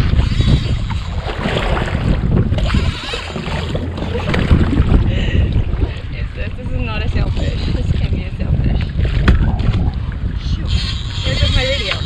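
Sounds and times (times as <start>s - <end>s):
choppy sea water washing: 0.0s - 12.0s
wind buffeting microphone: 0.0s - 12.0s.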